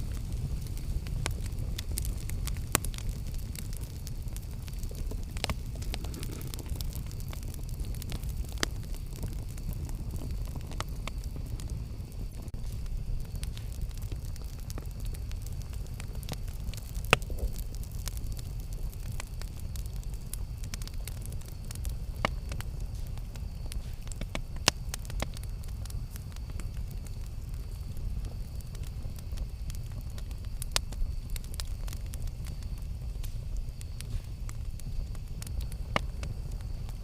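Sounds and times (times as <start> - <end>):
campfire rumble: 0.0 - 37.0
fire crackling and popping: 0.0 - 37.0.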